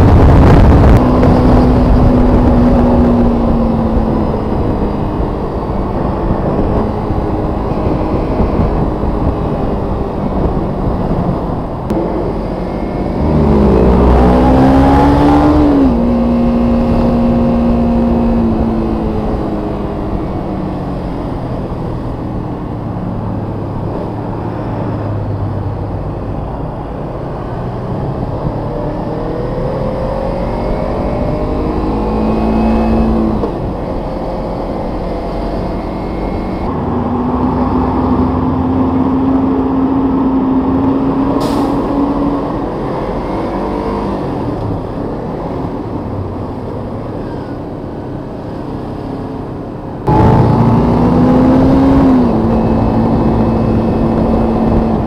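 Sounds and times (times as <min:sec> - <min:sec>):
motorcycle engine revving: 0:00.0 - 0:23.2, 0:28.0 - 0:47.5, 0:50.0 - 0:55.0.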